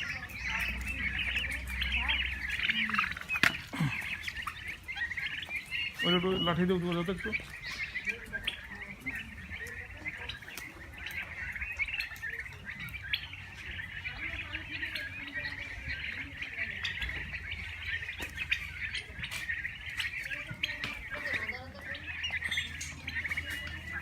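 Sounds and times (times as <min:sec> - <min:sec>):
turkeys chirping: 0:00.0 - 0:24.0.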